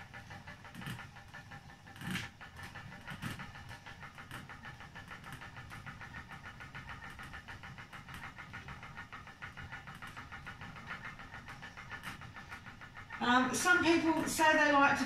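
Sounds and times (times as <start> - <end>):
yarn winder gears whirring: 0.0 - 15.0.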